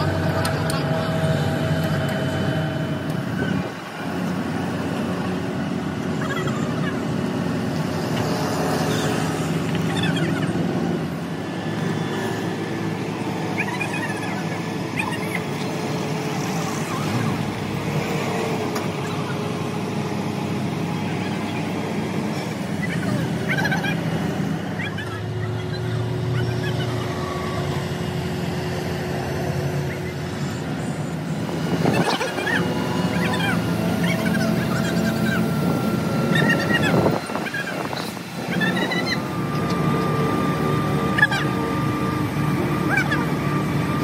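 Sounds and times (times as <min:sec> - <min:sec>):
faint voices: 0:00.0 - 0:43.8
engine running: 0:00.0 - 0:44.0.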